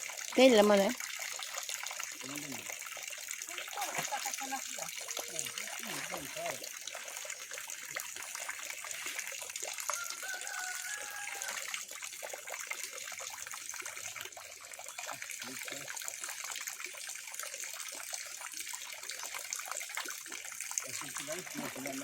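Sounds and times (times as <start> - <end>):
small water splashes: 0.0 - 22.0
water trickling through pond: 0.0 - 22.0.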